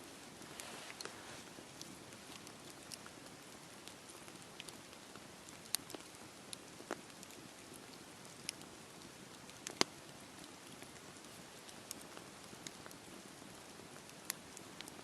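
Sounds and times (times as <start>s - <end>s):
fire crackling and popping: 0.0s - 15.0s
rain hissing on campfire: 0.0s - 15.0s.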